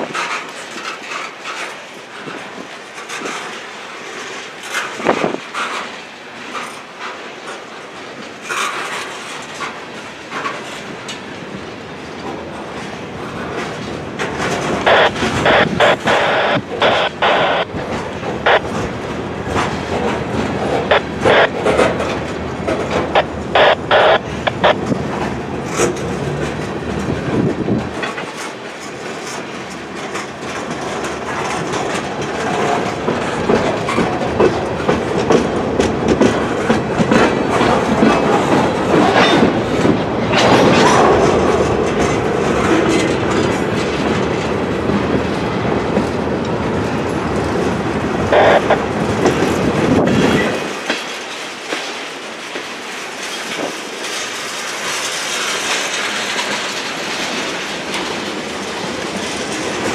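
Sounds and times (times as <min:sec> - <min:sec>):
freight train rolling past: 0:00.0 - 0:59.9
train wheels on rails: 0:00.0 - 0:59.9.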